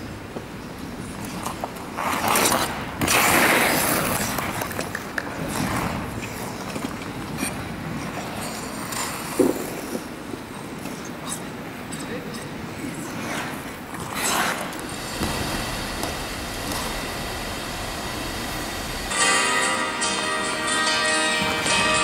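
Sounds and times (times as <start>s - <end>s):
steady background hiss: 0.0s - 22.0s
skate blades scraping ice: 1.0s - 11.5s, 12.8s - 22.0s.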